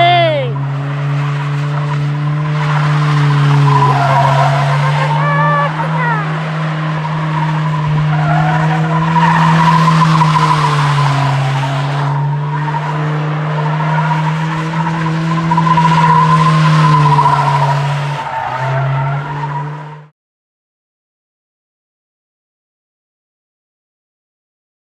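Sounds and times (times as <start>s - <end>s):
engine at high revs: 0.0s - 20.1s
tires squealing: 0.0s - 20.1s.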